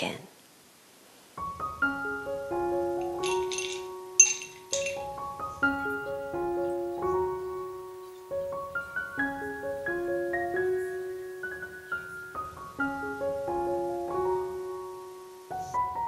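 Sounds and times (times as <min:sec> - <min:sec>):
piano music: 0:01.4 - 0:16.0.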